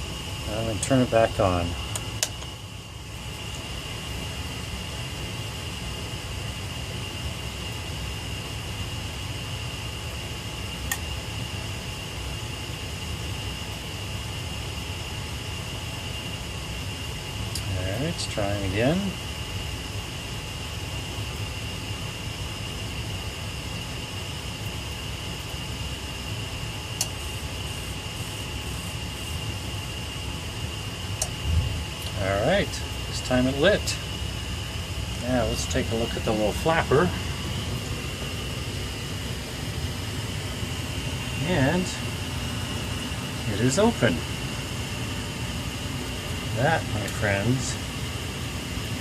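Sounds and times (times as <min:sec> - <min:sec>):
vent fan rushing: 0:00.0 - 0:49.0
water heater whirring and whining: 0:00.0 - 0:49.0.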